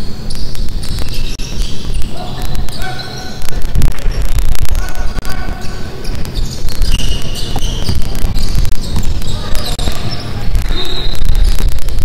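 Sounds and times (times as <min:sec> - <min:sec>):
sneaker squeaks: 0:00.0 - 0:03.4, 0:05.5 - 0:11.9
basketball bouncing: 0:00.3 - 0:12.0
players' footfalls: 0:00.5 - 0:12.0.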